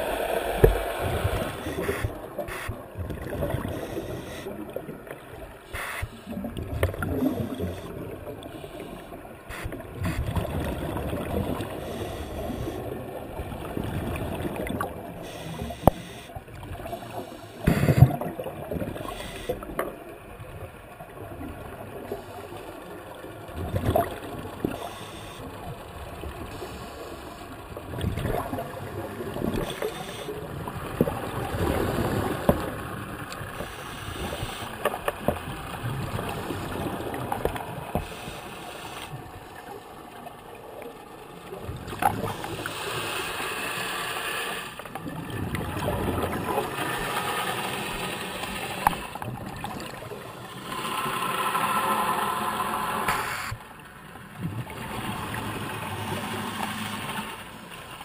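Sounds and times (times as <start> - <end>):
regulator bubbles gurgling underwater: 0.0 - 43.0, 44.8 - 53.1, 53.7 - 57.8.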